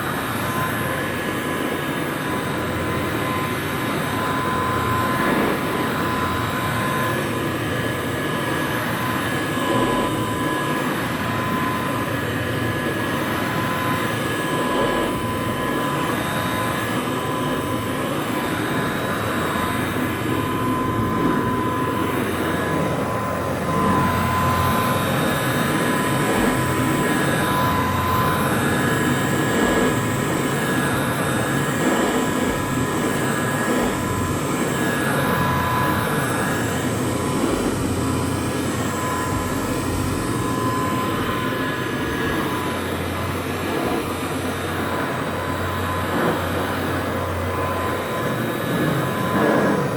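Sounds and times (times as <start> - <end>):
vacuum cleaner running: 2.6 - 7.4, 8.5 - 49.9.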